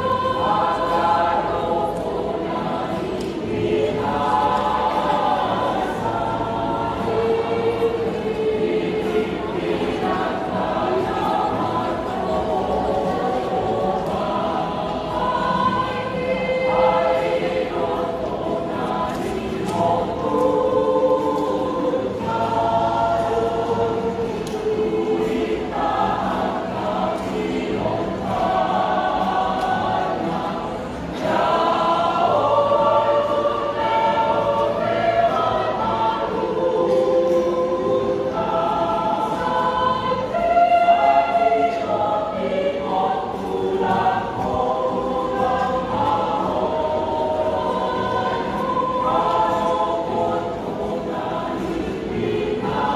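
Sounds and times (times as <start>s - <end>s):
mixed choir singing in harmony: 0.0s - 52.9s.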